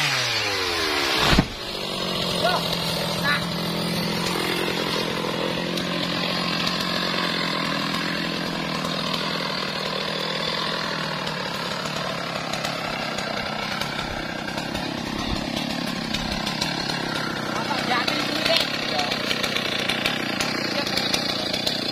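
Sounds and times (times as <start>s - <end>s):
chainsaw running: 0.0s - 21.9s.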